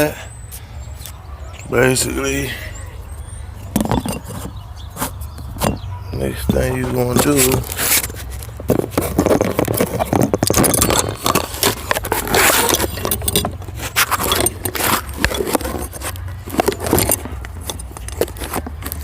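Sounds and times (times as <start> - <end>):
metal tools clinking and scraping: 0.0 - 19.0.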